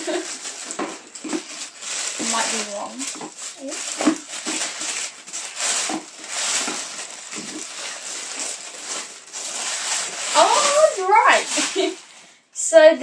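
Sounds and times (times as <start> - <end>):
wrapping paper rustling: 0.0 - 12.3.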